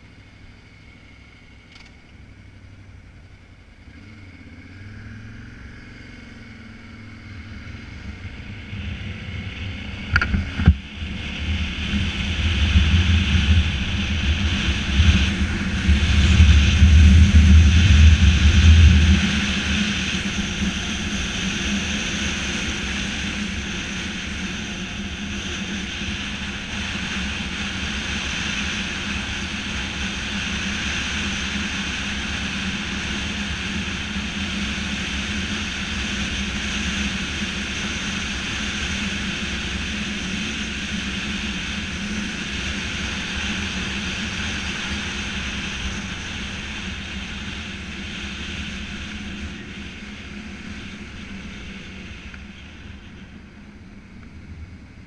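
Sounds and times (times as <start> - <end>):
motorcycle engine rumble: 0.0 - 55.0.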